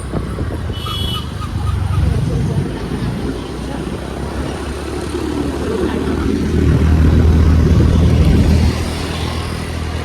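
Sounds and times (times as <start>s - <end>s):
road vehicle rumbling: 0.0s - 10.0s.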